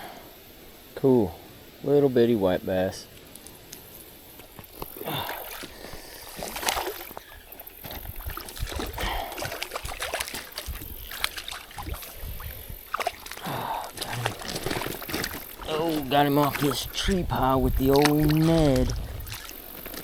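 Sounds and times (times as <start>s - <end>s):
water sloshing and splashing: 3.0s - 20.0s.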